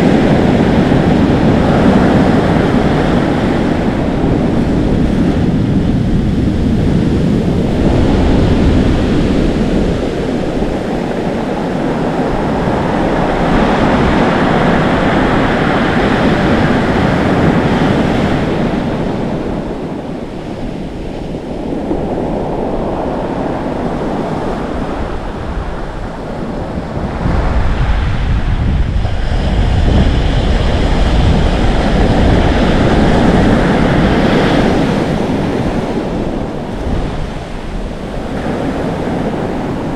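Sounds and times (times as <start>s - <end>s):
ocean waves breaking on shore: 0.0s - 39.9s
wind buffeting microphone: 0.0s - 39.9s.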